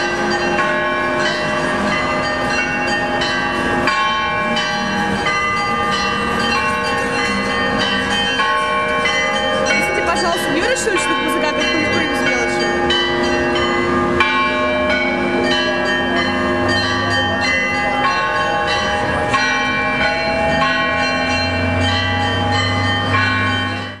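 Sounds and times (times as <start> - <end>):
church bells pealing: 0.0 - 24.0
deep low bell tone: 0.0 - 24.0.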